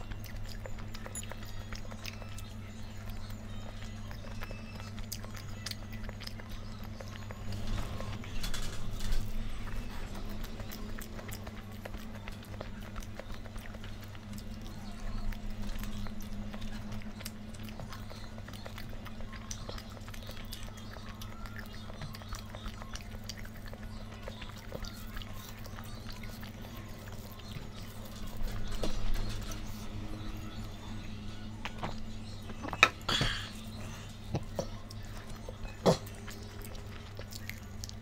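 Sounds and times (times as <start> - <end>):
person chewing food: 0.0 - 38.0
steady low hum: 0.0 - 38.0.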